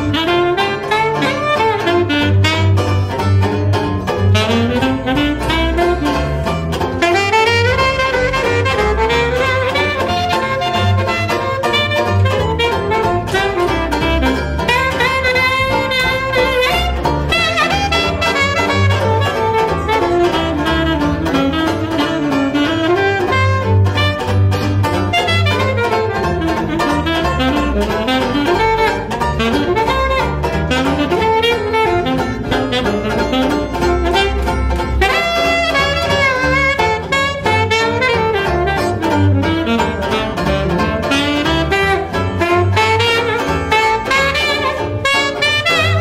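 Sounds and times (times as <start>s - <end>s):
double bass: 0.0s - 46.0s
jazz saxophone solo: 0.0s - 46.0s
strummed banjo: 0.0s - 46.0s.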